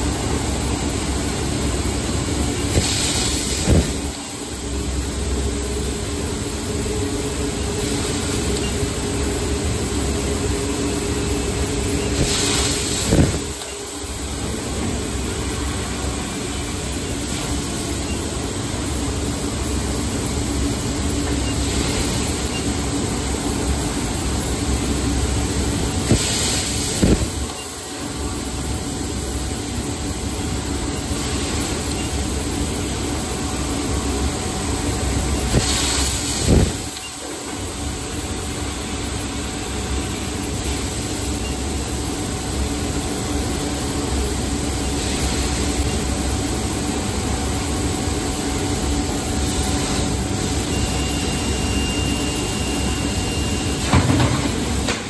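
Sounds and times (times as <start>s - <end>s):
machine hum: 0.0s - 55.0s
laser cutter hissing: 0.2s - 54.9s.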